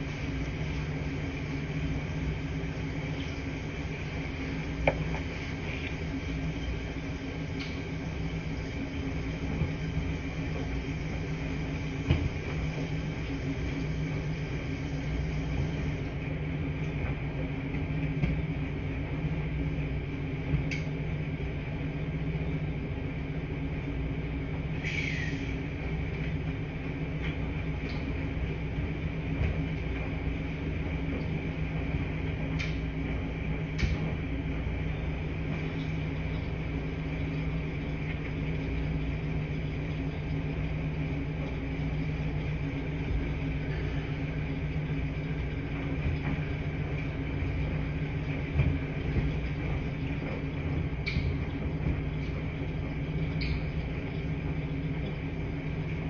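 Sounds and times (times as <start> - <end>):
washing machines humming: 0.0 - 56.0.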